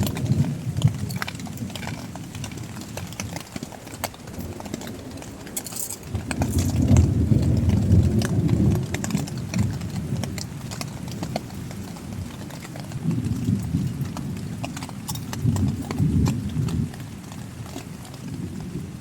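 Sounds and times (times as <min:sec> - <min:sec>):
heavy raindrops tapping: 0:00.0 - 0:19.0.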